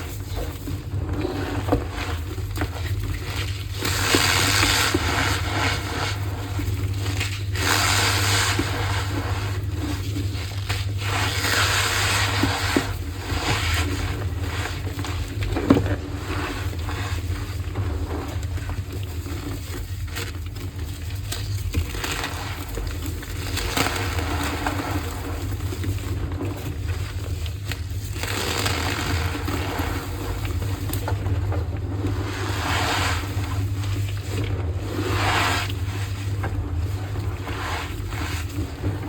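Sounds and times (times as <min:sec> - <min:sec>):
chalk crushing gritty crumbling: 0:00.1 - 0:31.1, 0:31.8 - 0:39.0.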